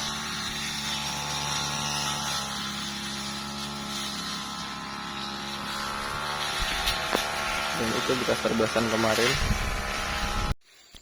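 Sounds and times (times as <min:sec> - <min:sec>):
brush cutter engines running: 0:00.0 - 0:10.6.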